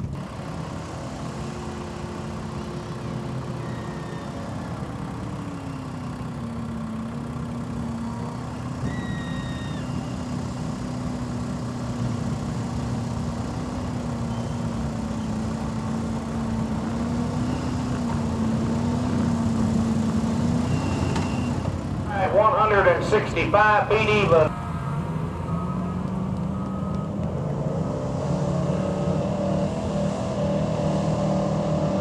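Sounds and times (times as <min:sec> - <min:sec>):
truck engine under load: 0:00.0 - 0:32.0.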